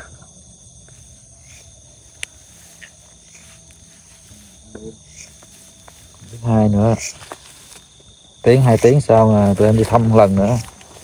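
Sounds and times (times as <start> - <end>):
crickets and insects trilling: 0.0 - 11.0.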